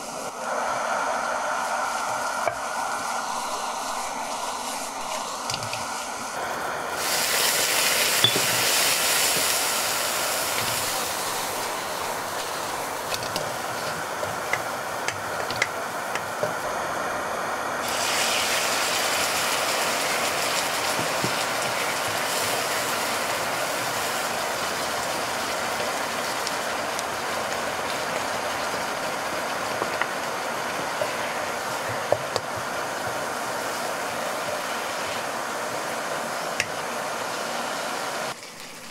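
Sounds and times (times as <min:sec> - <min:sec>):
food sizzling in a wok: 0:00.0 - 0:38.9.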